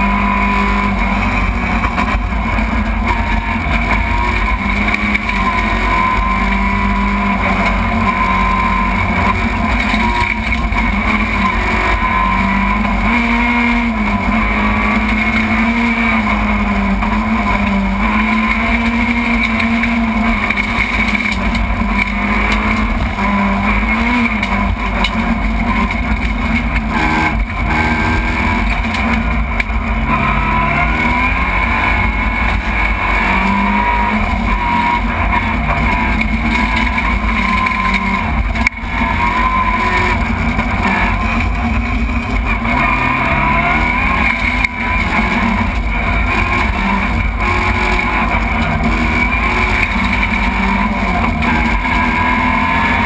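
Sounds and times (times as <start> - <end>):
car engine revving: 0.0 - 53.0
road noise: 0.0 - 53.0.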